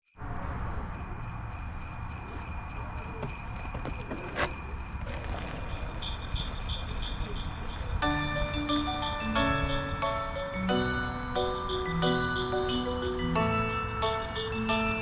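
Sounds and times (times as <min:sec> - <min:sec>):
jingle bells shaken in a beat: 0:00.0 - 0:15.0
bell-like melody notes: 0:02.9 - 0:15.0.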